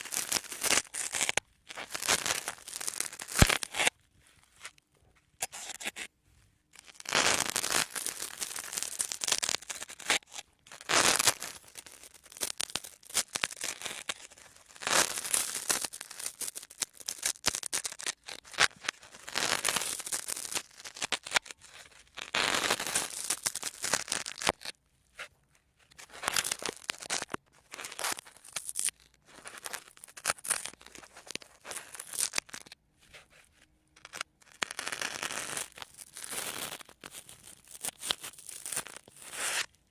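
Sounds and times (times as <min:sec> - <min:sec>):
sponge crackling and scratching: 0:00.0 - 0:04.8, 0:06.8 - 0:39.8.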